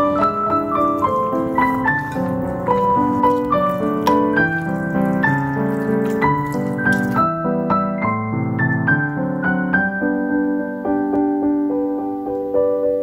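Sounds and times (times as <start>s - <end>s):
piano waltz: 0.0s - 13.0s.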